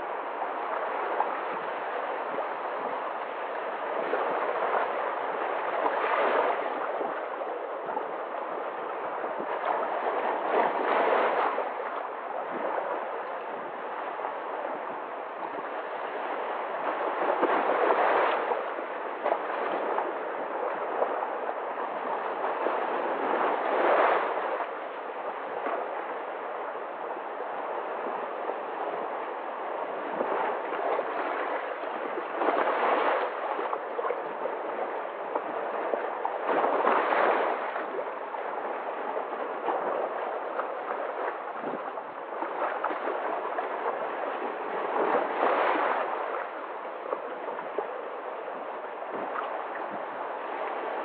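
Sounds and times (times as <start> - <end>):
sea waves washing over rocks: 0.0 - 51.0.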